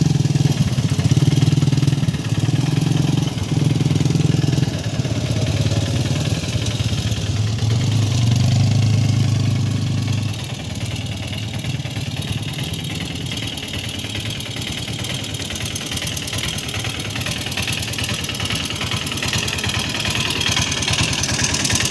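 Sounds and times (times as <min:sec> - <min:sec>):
small engine chugging: 0:00.0 - 0:21.9.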